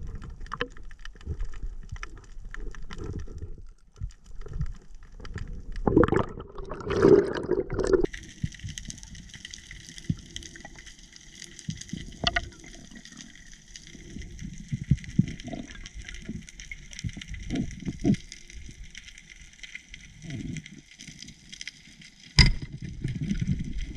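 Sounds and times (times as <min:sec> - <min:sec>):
water gurgling and swishing: 0:00.0 - 0:23.9.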